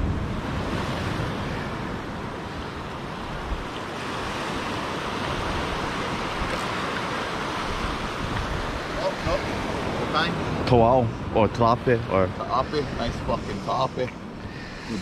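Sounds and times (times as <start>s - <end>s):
surf washing against rocks: 0.0s - 15.0s.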